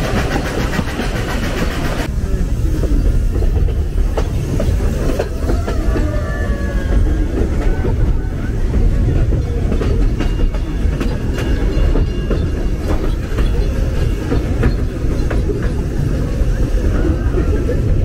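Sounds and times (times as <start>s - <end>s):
wheels clicking over rail joints: 0.0s - 2.1s, 2.8s - 18.0s
train rumbling on track: 0.0s - 18.0s.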